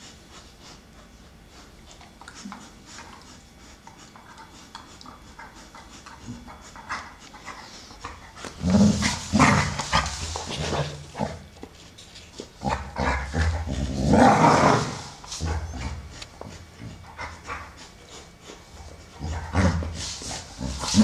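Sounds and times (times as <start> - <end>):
dogs snuffling: 0.0 - 21.0
dogs play-growling: 1.8 - 21.0.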